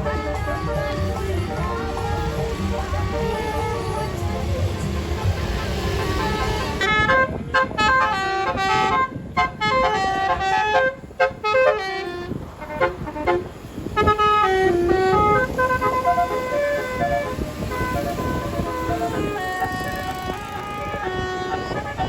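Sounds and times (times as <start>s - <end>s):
bus air horn playing tune: 0.0s - 22.0s.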